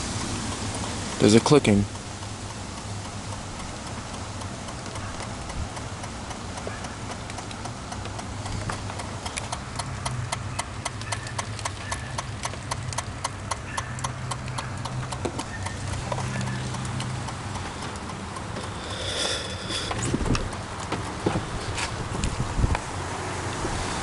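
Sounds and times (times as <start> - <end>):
rapid electrical clicking: 0.0 - 23.0.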